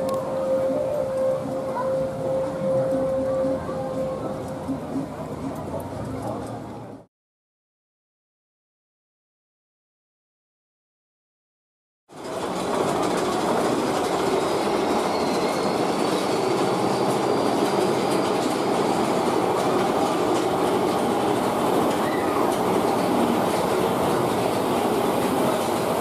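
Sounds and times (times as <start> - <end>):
roller coaster wheels rumbling on track: 0.0 - 7.1, 12.1 - 26.0.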